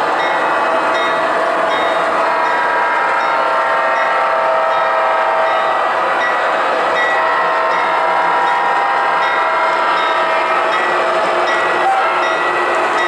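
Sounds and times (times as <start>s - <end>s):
model trains running: 0.0s - 13.0s.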